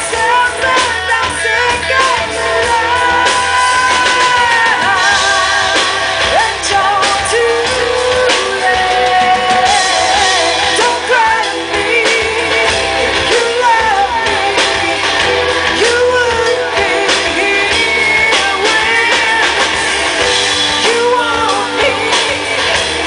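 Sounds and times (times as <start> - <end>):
bass guitar: 0.0 - 23.0
electric guitar: 0.0 - 23.0
steady drum beat: 0.0 - 23.0
woman singing: 0.0 - 23.0.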